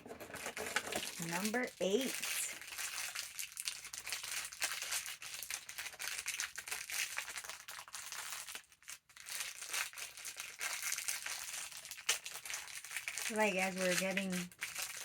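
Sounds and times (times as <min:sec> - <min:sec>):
packaging bag crinkling: 0:00.0 - 0:15.0.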